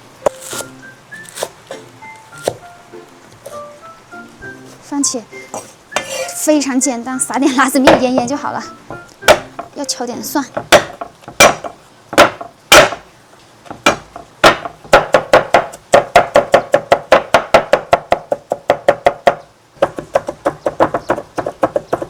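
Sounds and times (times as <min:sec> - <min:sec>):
garlic being pounded: 0:00.2 - 0:06.5, 0:07.2 - 0:22.0.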